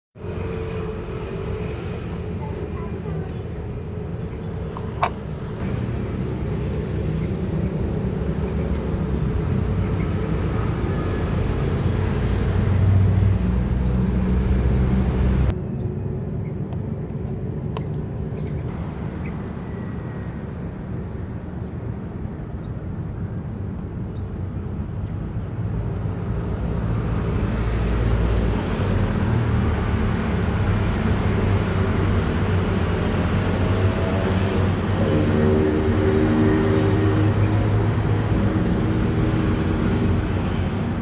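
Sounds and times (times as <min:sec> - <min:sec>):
low outdoor rumble: 0:00.2 - 0:41.0.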